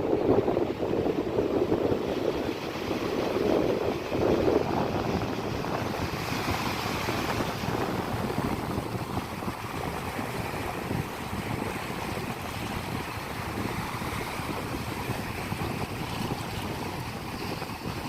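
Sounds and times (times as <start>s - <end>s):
sea surf washing onto beach: 0.0s - 18.0s.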